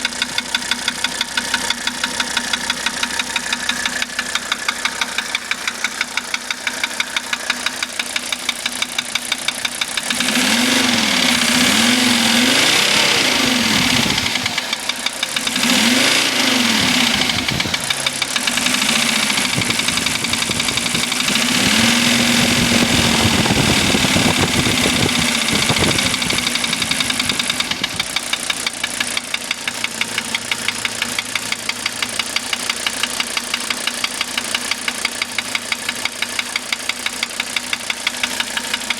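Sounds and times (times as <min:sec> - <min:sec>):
diesel engine idling with knock: 0:00.0 - 0:38.9
diesel engine revving: 0:00.0 - 0:38.9.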